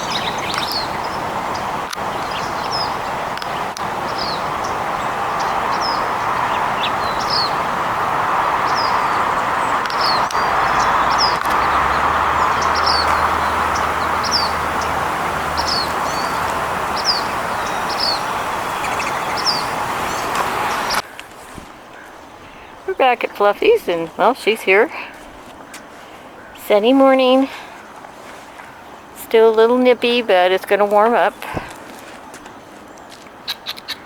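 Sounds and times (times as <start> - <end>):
background rush of noise: 0.0 - 34.0.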